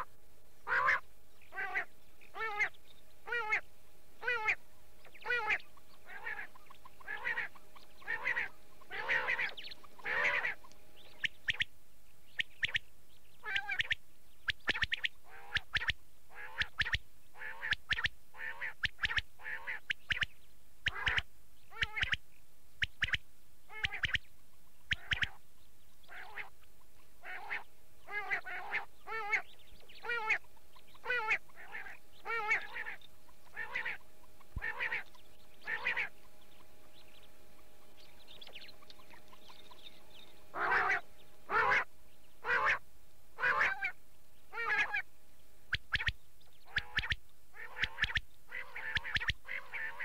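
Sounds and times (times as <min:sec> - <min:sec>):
quail calls: 0:00.0 - 0:11.7, 0:12.3 - 0:22.2, 0:22.8 - 0:25.4, 0:26.0 - 0:42.8, 0:43.4 - 0:45.1, 0:45.7 - 0:50.0
faint steady hum: 0:00.0 - 0:50.0.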